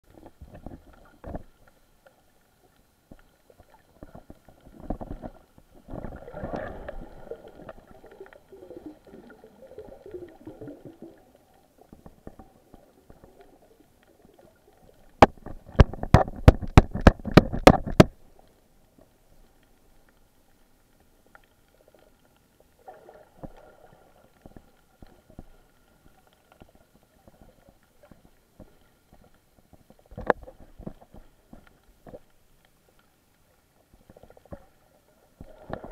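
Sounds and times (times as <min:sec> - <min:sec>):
underwater sloshing and rustling: 0:00.0 - 0:35.9
sharp clicks underwater: 0:00.1 - 0:35.9.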